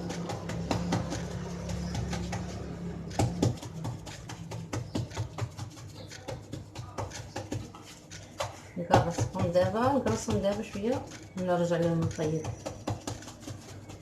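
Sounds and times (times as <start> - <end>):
hands slapping wet dough: 0.0 - 14.0.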